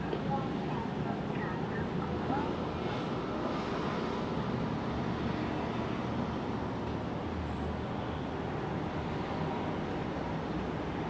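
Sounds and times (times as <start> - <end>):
city noise: 0.0 - 11.0
ferry engines rumbling: 0.0 - 11.0.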